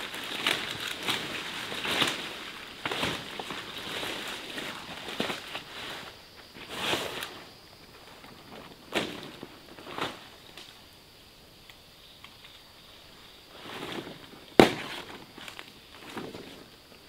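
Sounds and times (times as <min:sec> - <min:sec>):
leaves rustling and crinkling: 0:00.0 - 0:17.0.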